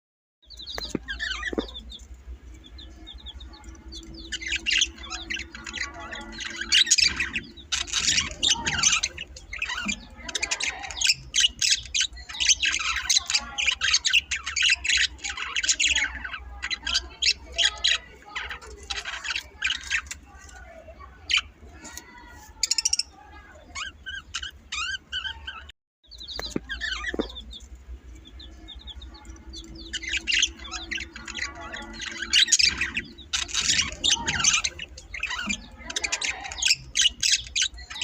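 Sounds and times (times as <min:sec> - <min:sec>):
birds chirping and squawking: 0:00.4 - 0:38.0.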